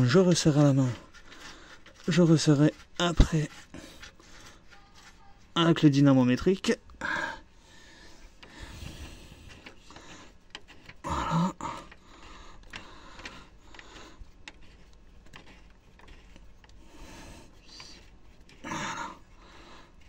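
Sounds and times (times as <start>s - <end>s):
rubbing and scraping: 0.0s - 6.8s, 7.5s - 20.0s.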